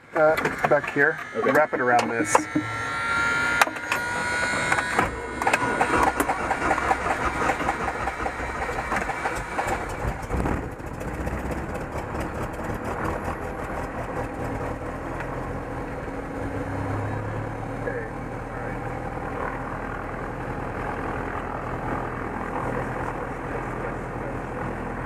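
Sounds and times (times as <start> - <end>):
aircraft engine starting and idling: 0.0 - 25.0.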